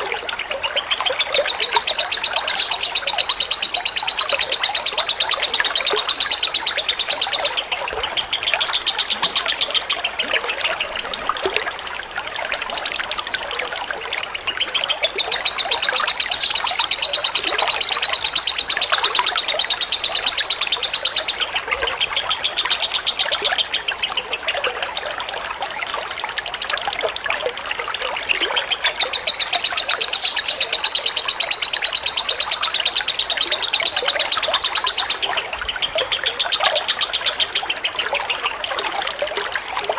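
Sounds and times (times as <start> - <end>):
lovebird chattering trill: 0.0 - 39.9
trickling water: 0.0 - 39.9.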